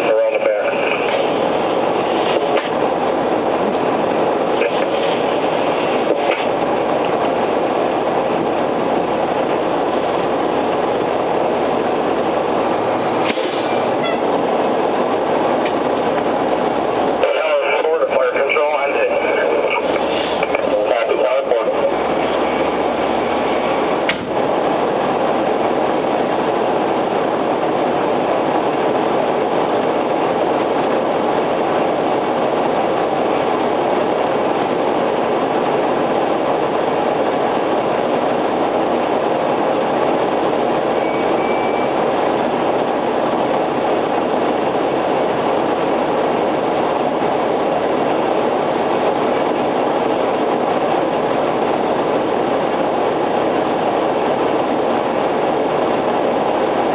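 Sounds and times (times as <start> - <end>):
fire engine driving: 0.0 - 56.9.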